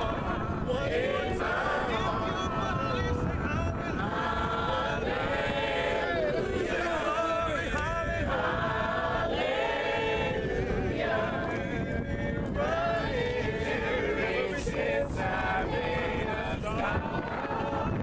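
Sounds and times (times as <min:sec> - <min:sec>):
congregation singing a cappella: 0:00.0 - 0:18.0.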